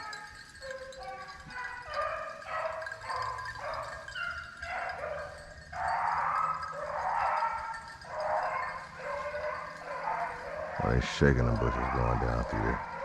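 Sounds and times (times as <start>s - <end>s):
hounds baying: 0.0s - 13.0s.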